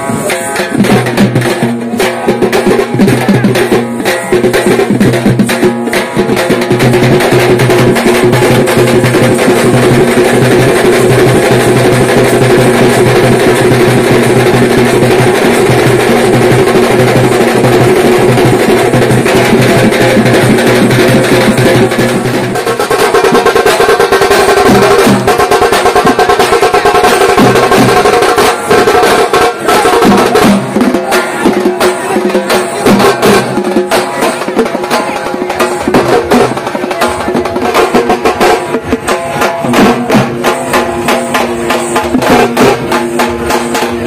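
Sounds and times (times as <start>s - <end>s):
frame drum music: 0.0s - 44.0s.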